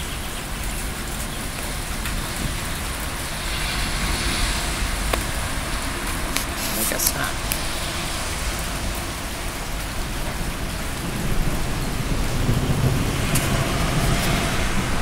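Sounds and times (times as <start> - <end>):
heavy rain falling: 0.0 - 15.0
low thunder rumble: 0.0 - 15.0.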